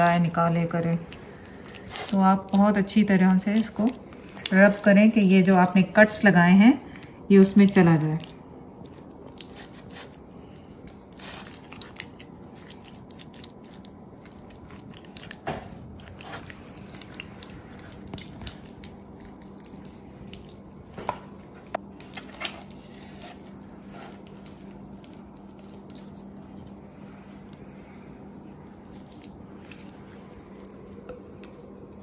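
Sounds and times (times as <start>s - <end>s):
faint steady hum: 0.0s - 32.0s
hands squelching marinade into meat: 0.0s - 32.0s.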